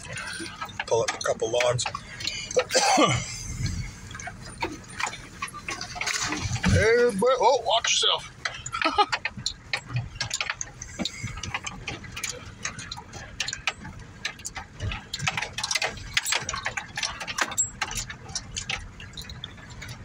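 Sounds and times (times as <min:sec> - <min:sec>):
low engine rumble: 0:00.0 - 0:20.0
truck cab rattling: 0:00.0 - 0:20.0.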